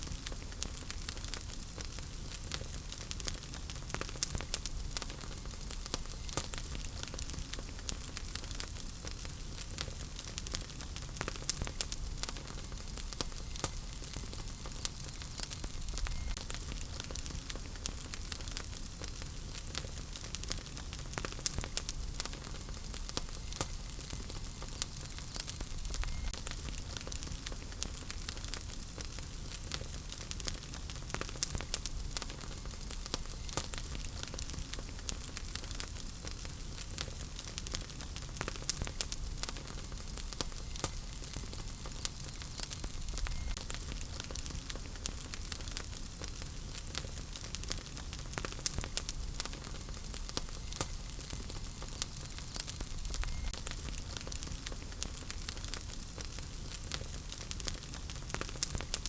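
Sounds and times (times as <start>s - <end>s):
flames hissing and rumbling: 0.0s - 59.0s
wood fire crackling: 0.0s - 59.0s.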